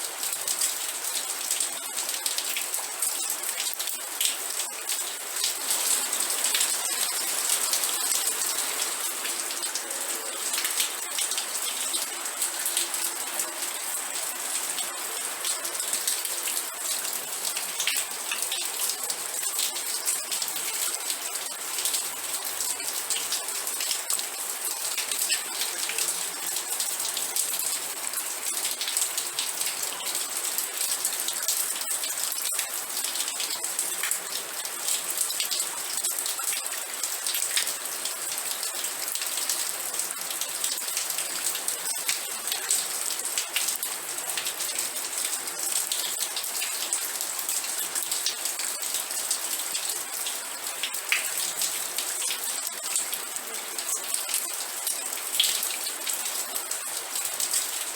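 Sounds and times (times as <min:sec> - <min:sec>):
steady rain pattering: 0:00.0 - 0:57.9.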